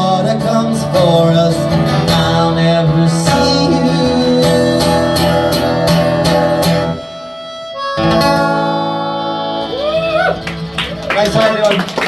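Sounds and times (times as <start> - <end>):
acoustic guitar strumming: 0.0 - 11.8
harmonica playing: 1.2 - 11.2.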